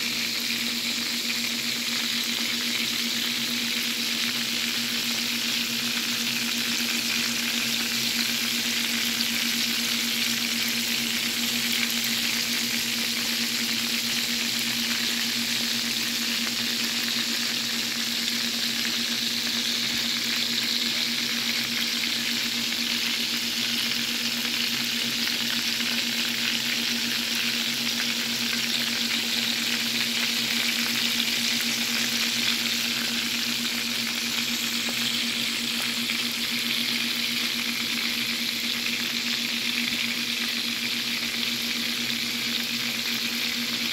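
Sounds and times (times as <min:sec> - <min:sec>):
meat sizzling in oil: 0:00.0 - 0:43.9.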